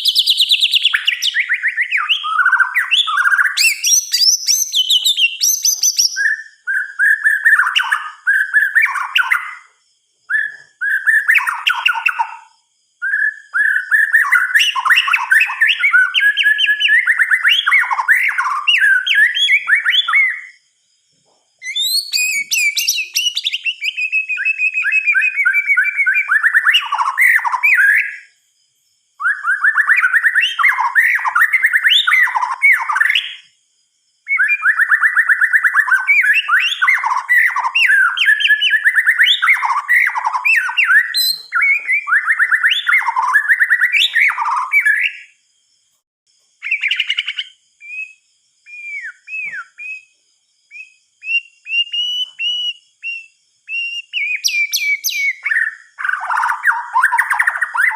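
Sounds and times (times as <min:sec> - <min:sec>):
bird singing whistled notes: 0:00.0 - 0:45.5, 0:46.6 - 0:57.9.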